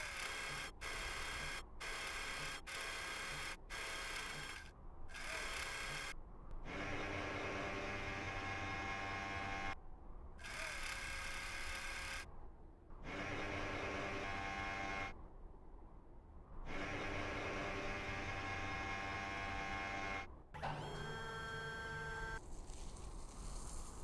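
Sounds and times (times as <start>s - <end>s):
electric motors whirring: 0.0s - 9.8s, 10.4s - 12.2s, 13.0s - 15.1s, 16.7s - 22.4s.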